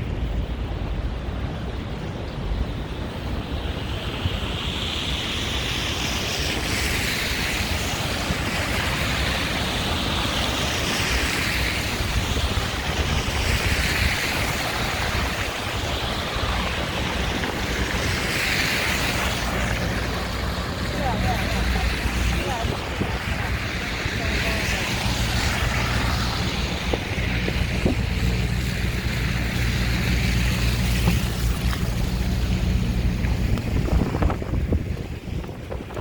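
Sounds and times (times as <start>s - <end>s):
strong wind buffeting microphone: 0.0s - 36.0s.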